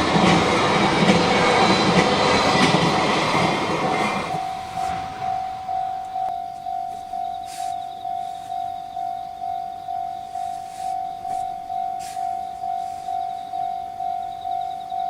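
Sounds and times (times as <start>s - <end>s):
level crossing alarm dinging: 0.0s - 15.0s.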